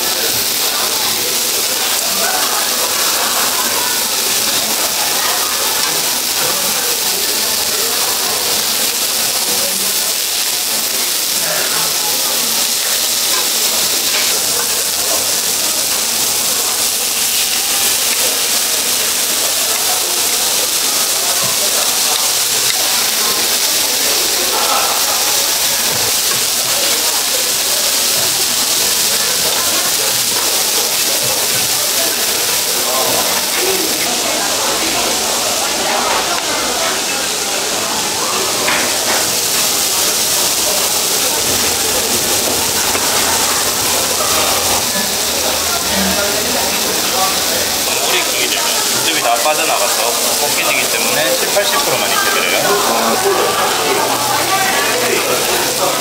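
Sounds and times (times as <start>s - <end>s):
meat sizzling on a grill: 0.0s - 56.0s.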